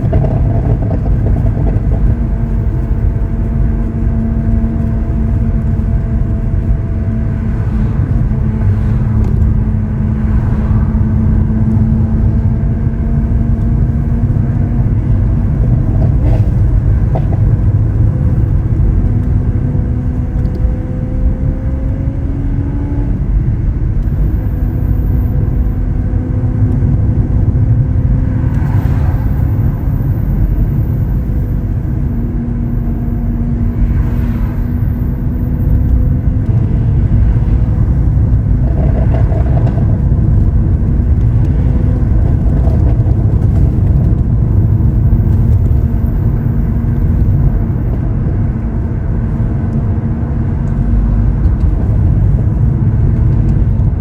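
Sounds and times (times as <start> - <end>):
car engine cruising: 0.0 - 54.0
road and wind rumble: 0.0 - 54.0.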